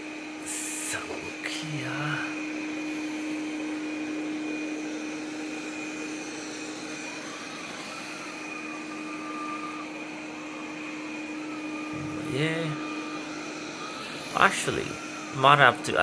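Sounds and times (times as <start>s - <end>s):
robot vacuum motor hum: 0.0s - 16.0s.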